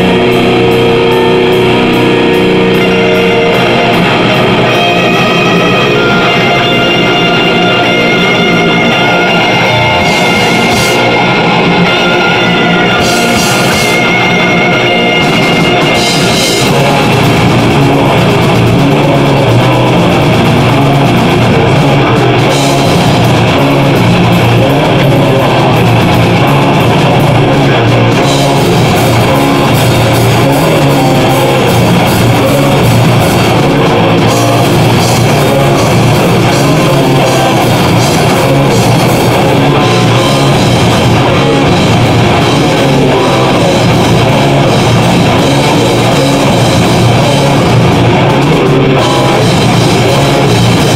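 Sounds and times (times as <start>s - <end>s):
metal band playing live: 0.0s - 50.9s.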